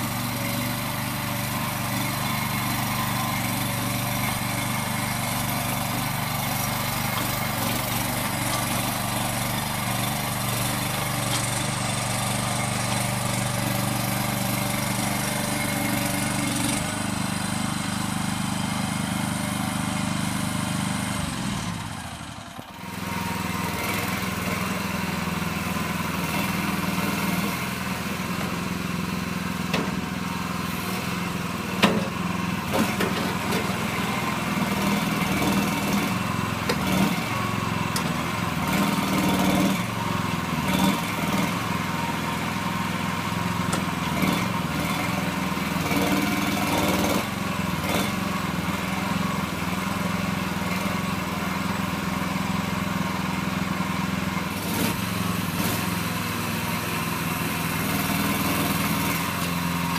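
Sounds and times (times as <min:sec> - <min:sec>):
mini digger engine running: 0:00.0 - 0:59.9.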